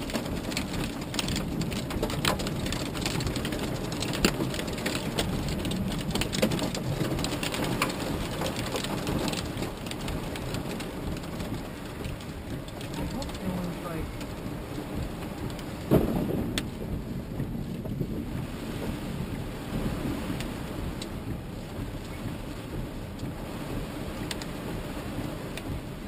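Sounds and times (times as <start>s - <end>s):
heavy rain on car roof: 0.0s - 26.0s
sharp raindrop hits: 0.0s - 26.0s.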